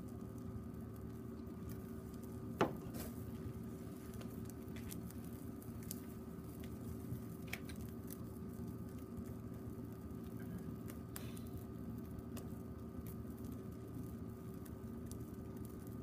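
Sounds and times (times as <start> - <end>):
meat grilling crackles and pops: 0.0 - 16.0
steady low hum: 0.0 - 16.0.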